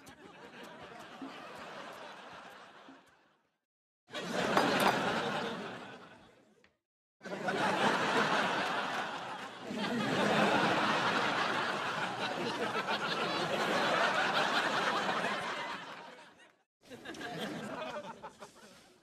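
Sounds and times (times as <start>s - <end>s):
studio audience laughing: 0.0s - 19.0s.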